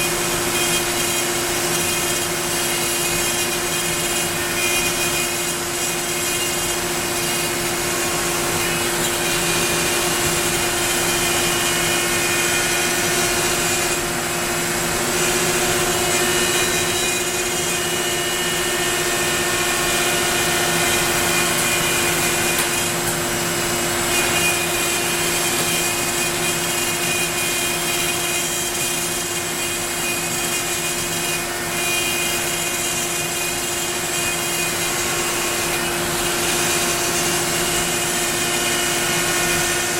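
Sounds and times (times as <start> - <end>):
router bit cutting wood: 0.0 - 39.9
router spindle whine: 0.0 - 39.9.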